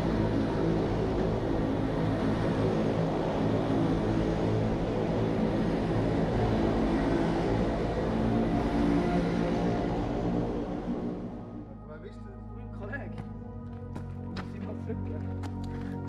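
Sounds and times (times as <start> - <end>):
electric train passing with hum: 0.0 - 15.1.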